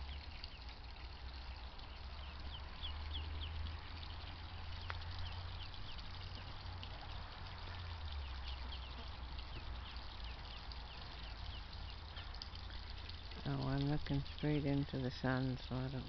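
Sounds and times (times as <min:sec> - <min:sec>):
ducklings peeping: 0:00.0 - 0:15.2.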